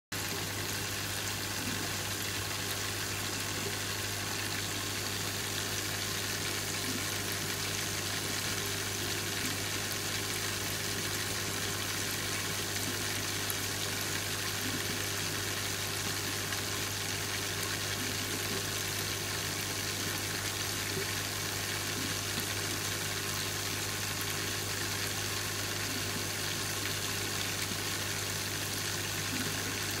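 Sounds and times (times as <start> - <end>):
low hum of pumps: 0.2 - 30.0.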